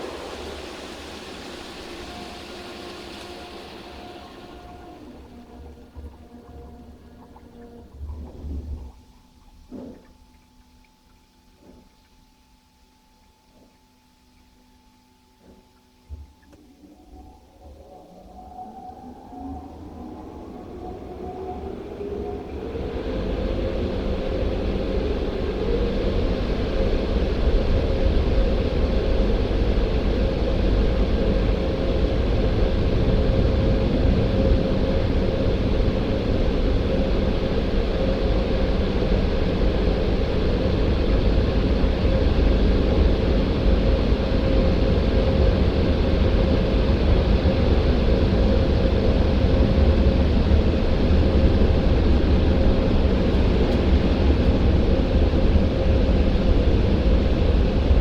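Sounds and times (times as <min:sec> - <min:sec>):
car wash machine running: 0:00.0 - 0:08.6, 0:17.4 - 0:58.0
steady hum: 0:00.0 - 0:10.0, 0:19.1 - 0:58.0.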